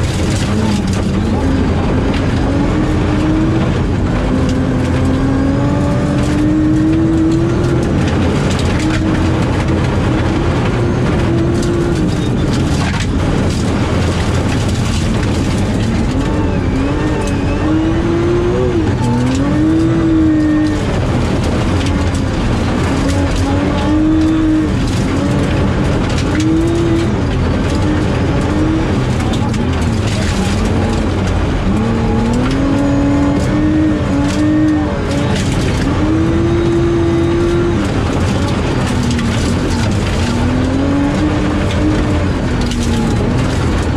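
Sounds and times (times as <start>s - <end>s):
gravel road noise: 0.0s - 43.9s
rally car engine revving: 0.0s - 43.9s.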